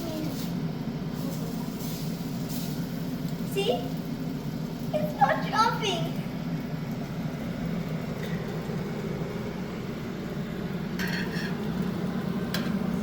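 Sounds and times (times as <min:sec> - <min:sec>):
bread sizzling in pan: 0:00.0 - 0:13.0.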